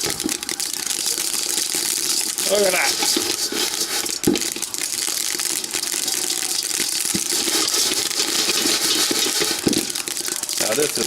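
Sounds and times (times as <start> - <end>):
rice popping in dry pan: 0.0 - 11.0.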